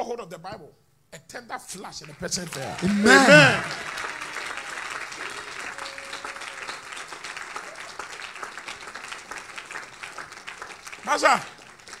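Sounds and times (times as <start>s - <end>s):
crowd clapping: 2.0s - 12.0s.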